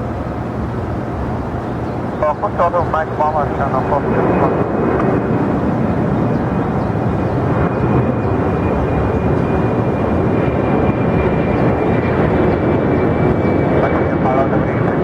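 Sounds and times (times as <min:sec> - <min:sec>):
high engine whine: 0:00.0 - 0:15.0
jet engines running: 0:00.0 - 0:15.0.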